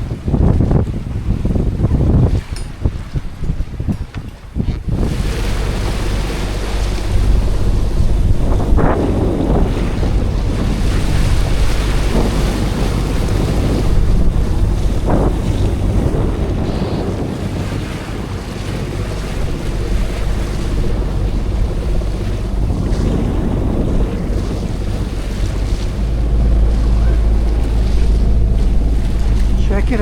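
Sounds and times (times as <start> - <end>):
sea water rushing past hull: 0.0 - 30.0
wind buffeting microphone: 0.0 - 30.0.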